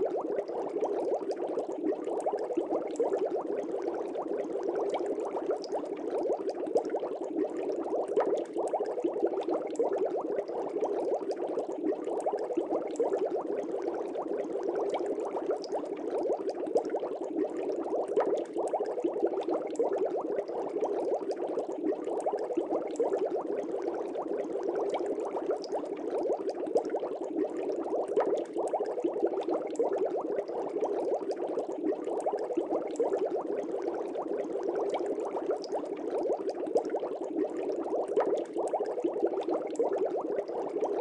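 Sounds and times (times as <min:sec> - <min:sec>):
aquarium water bubbling: 0:00.0 - 0:41.0.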